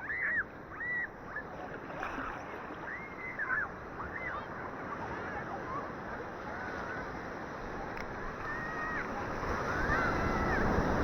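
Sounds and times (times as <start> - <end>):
sea waves washing on beach: 0.8 - 11.0.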